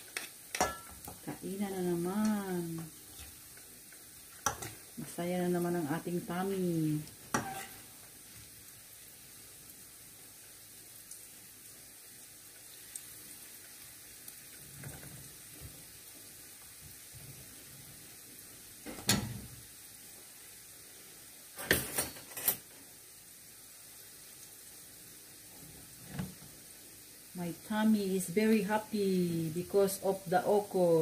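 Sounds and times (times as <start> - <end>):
oil sizzling in a frying pan: 0.0 - 31.0.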